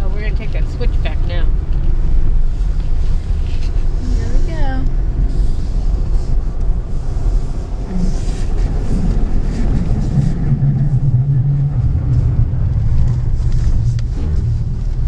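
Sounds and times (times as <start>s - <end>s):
engine and tyre rumble: 0.0s - 15.0s
engine hum: 0.0s - 15.0s.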